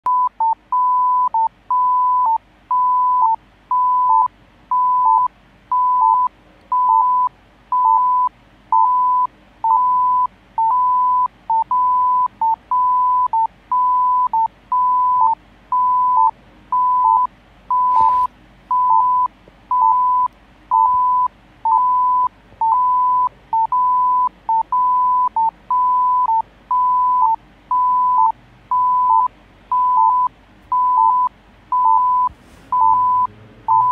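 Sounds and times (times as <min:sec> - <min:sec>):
pulse oximeter beeping: 0:00.1 - 0:33.9.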